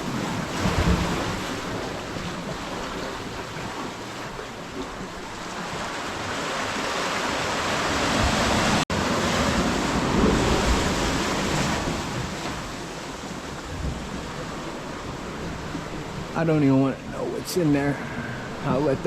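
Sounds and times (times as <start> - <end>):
surf washing in: 0.0 - 19.0
wind buffeting microphone: 0.0 - 19.0.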